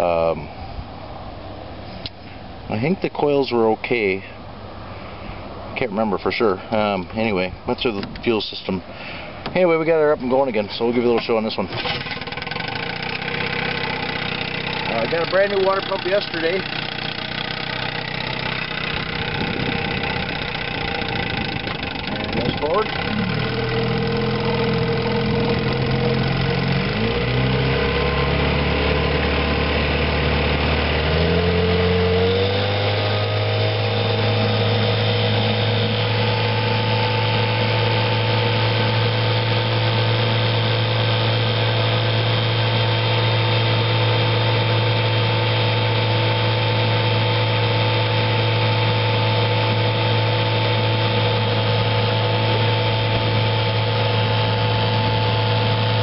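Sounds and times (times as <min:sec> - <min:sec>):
outboard motor running: 0:07.9 - 0:56.0.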